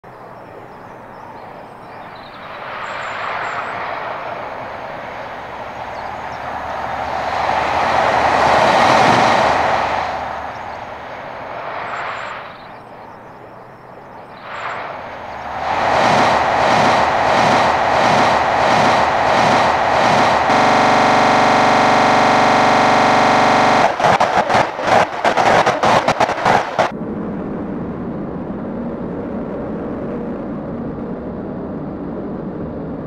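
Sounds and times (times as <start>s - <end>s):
diesel train passing: 0.2s - 26.9s.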